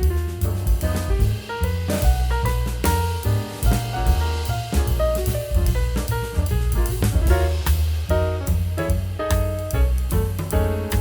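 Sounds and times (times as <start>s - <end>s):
upbeat jazzy music: 0.0s - 11.0s.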